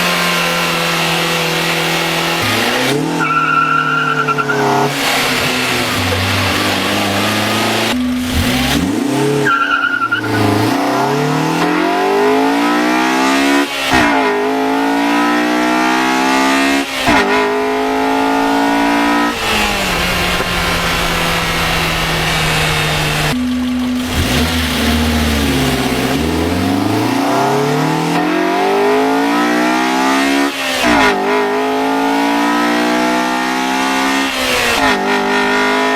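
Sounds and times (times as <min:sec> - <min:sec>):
car engine accelerating hard: 0:00.0 - 0:35.9.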